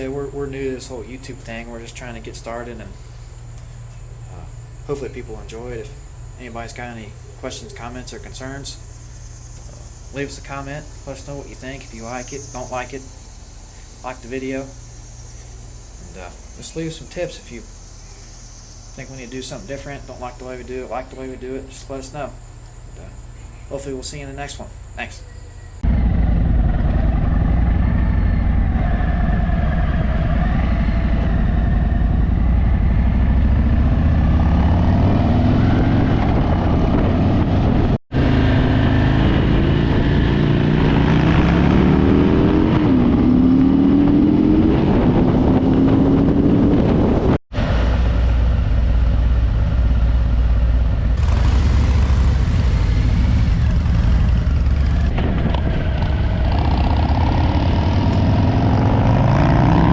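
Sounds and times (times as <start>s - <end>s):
motorcycle engine accelerating: 0.0s - 16.7s, 25.6s - 59.9s.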